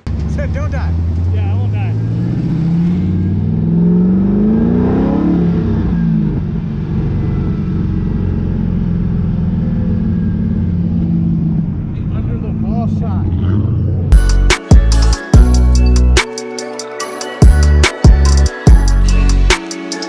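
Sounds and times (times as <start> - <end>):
car engine accelerating: 0.0 - 16.1.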